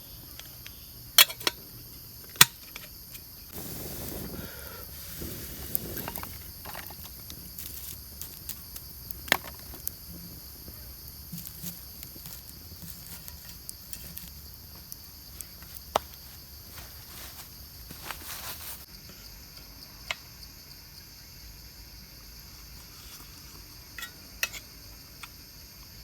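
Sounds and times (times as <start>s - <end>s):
high insect chorus: 0.0s - 26.0s.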